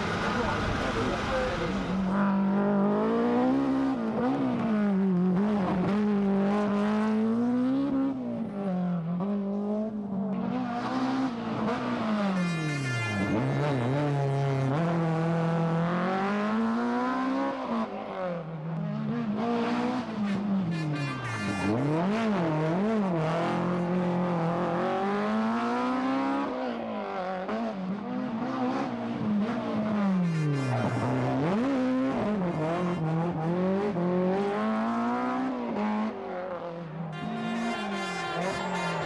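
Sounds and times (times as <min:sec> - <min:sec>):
rally car engines revving hard: 0:00.0 - 0:37.7.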